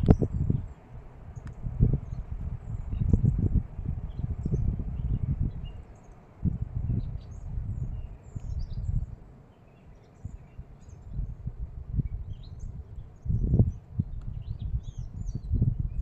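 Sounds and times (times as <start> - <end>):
faint bird chirps: 0.0 - 11.4, 12.0 - 16.0
low rumbling in gusts: 0.0 - 16.0.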